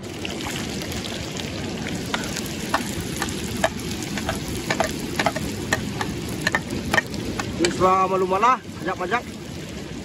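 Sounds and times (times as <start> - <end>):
oil crackling and popping: 0.0 - 9.7
onions sizzling in hot oil: 0.0 - 9.9.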